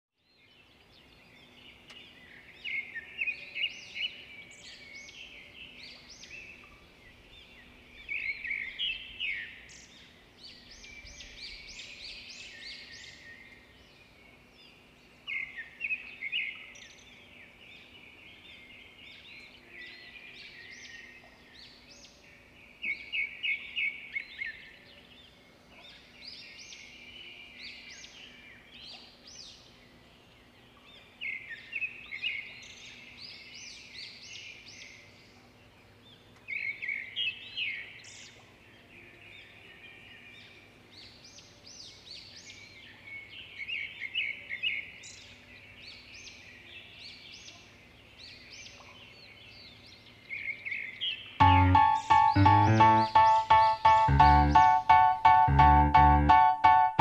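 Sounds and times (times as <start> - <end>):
songbird chirping and trilling: 0.2 - 57.0.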